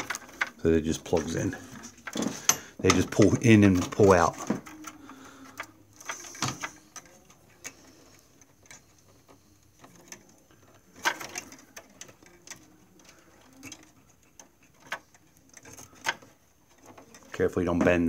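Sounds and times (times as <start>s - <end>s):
clicks of plastic printer parts: 0.0s - 18.0s.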